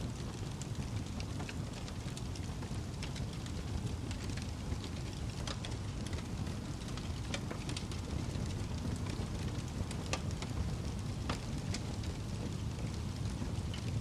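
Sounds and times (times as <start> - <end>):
fire crackling and popping: 0.0 - 14.0
low rumble of flame: 0.0 - 14.0.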